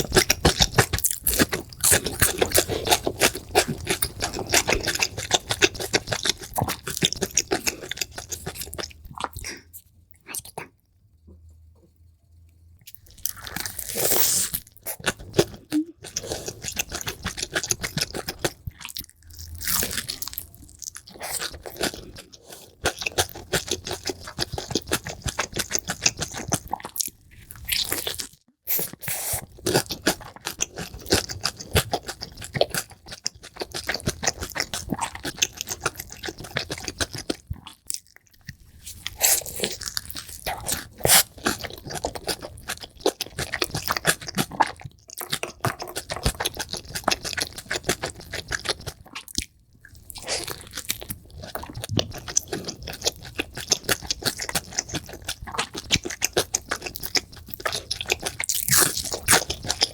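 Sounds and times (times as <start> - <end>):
crunchy bites and chewing: 0.0 - 10.7, 12.9 - 59.9.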